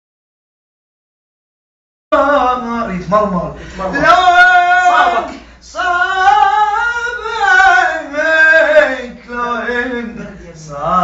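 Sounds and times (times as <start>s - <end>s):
man singing unaccompanied: 2.1s - 11.0s.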